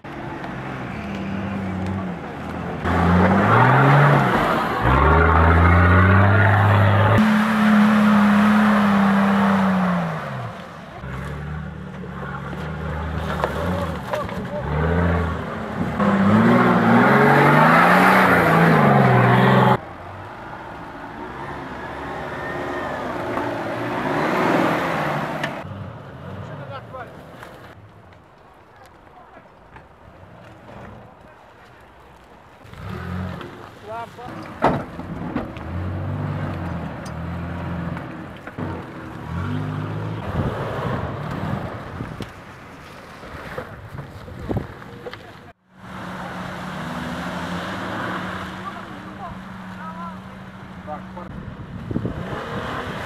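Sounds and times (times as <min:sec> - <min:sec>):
tyres churning mud: 0:00.0 - 0:53.0
off-road vehicle engine revving: 0:00.5 - 0:19.8, 0:21.0 - 0:27.8, 0:32.6 - 0:42.2, 0:45.8 - 0:53.0.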